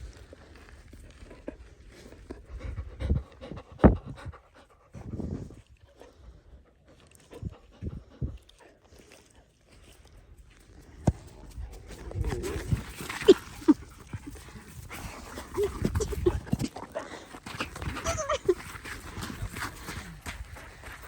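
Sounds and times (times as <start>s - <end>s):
dog panting: 1.0s - 10.1s, 11.2s - 21.0s.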